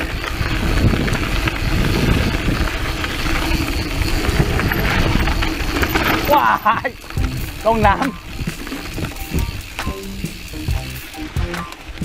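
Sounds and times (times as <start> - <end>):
wind rumble on microphone: 0.0 - 6.3, 6.9 - 12.0
small rattles: 0.0 - 12.0
tyres rolling over dirt: 0.0 - 12.0.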